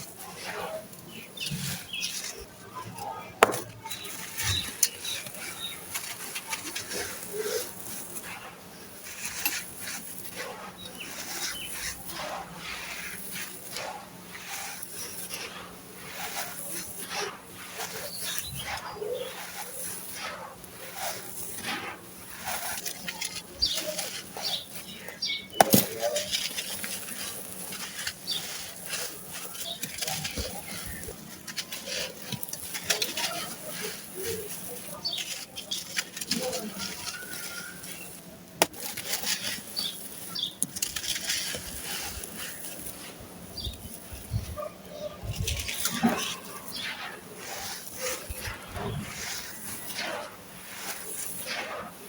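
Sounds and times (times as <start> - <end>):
sand cement crumbling: 0.0 - 52.0.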